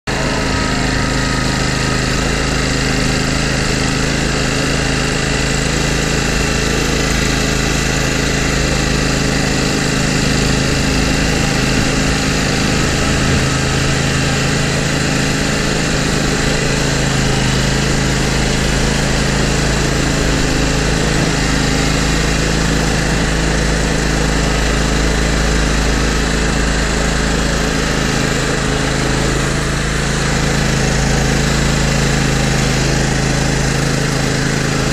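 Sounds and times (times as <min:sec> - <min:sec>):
mower engine running: 0:00.0 - 0:34.9.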